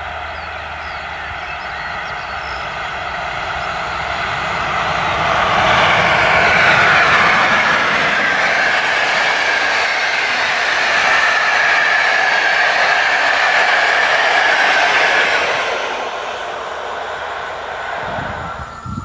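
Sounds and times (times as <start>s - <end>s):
train wheels on rails passing: 0.0s - 19.0s.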